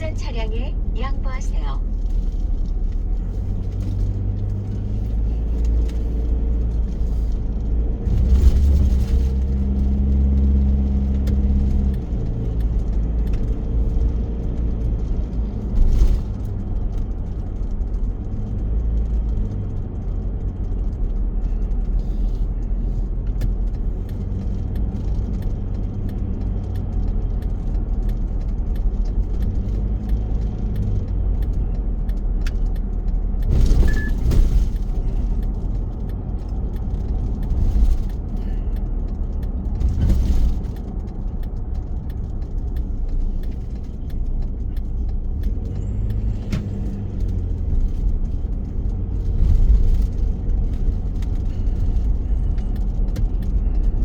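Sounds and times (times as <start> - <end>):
car engine and road rumble: 0.0 - 54.0
light rattles and clicks: 0.0 - 54.0.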